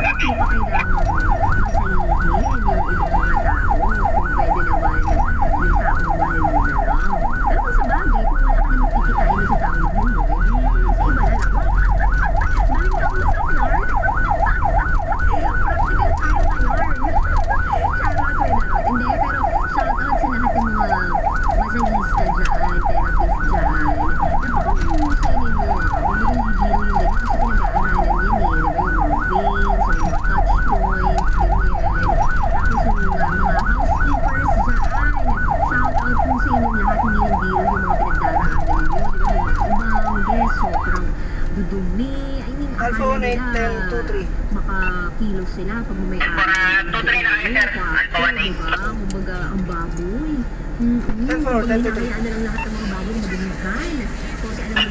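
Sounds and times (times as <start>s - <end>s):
ambulance siren yelping: 0.0s - 50.4s
moving vehicle rumble: 0.0s - 54.9s.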